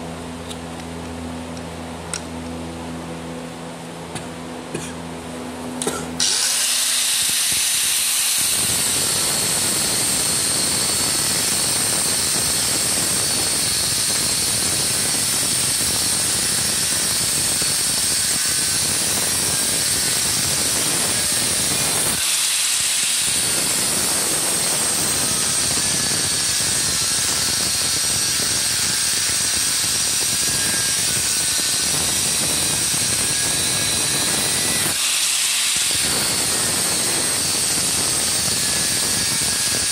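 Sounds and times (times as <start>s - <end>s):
angle grinder cutting steel: 5.8s - 39.9s.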